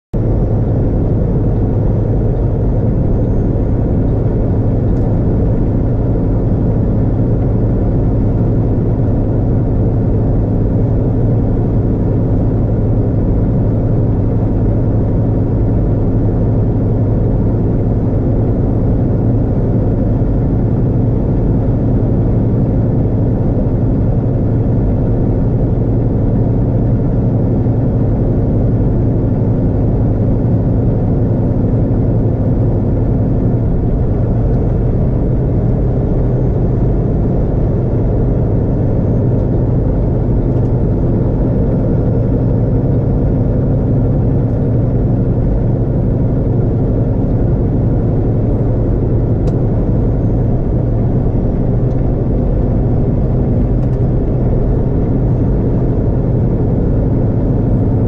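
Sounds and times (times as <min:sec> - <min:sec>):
vehicle engine drone: 0:00.1 - 0:58.0.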